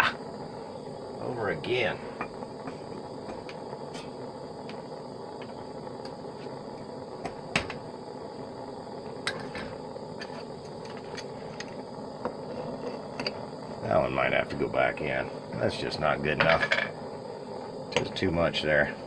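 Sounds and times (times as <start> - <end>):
furnace mechanical hum: 0.0 - 19.0.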